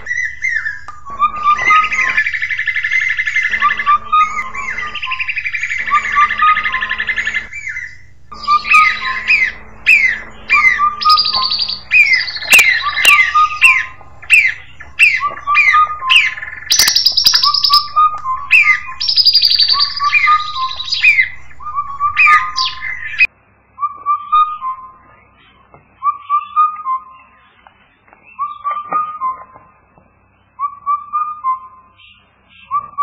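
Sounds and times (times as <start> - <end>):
cuckoo calling: 0.0 - 29.8, 30.5 - 33.0
birds chirping and whistling: 0.0 - 33.0.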